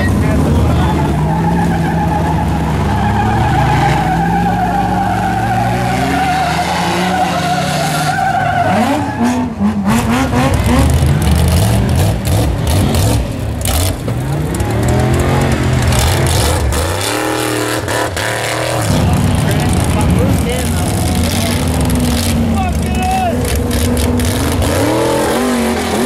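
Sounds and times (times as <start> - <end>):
truck engine at high revs: 0.0 - 26.0
truck engine revving unevenly: 0.0 - 26.0.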